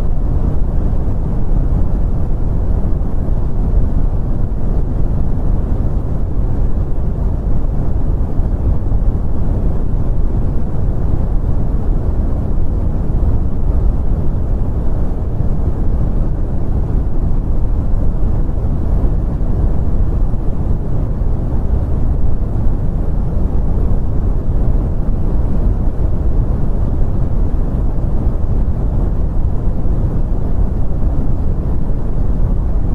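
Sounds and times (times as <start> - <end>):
brown noise rumble: 0.0 - 32.9.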